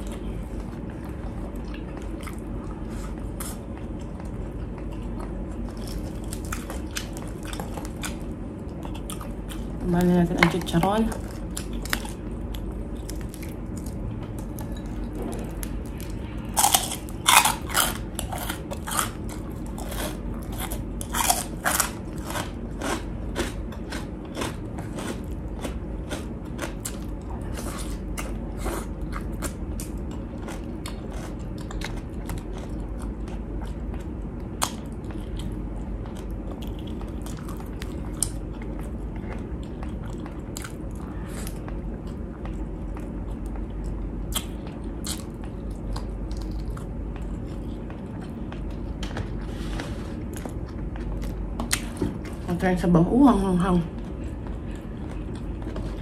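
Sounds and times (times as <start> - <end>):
crunchy chewing: 0.0 - 52.5, 53.9 - 56.0.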